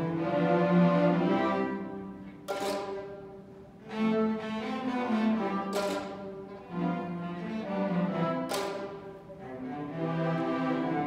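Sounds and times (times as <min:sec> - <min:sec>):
string orchestra sustained chords: 0:00.0 - 0:11.0.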